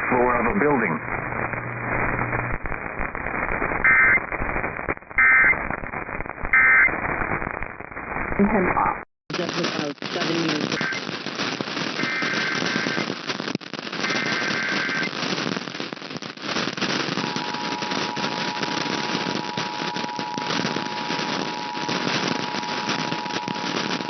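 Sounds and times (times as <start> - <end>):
radio static: 0.0 - 24.0.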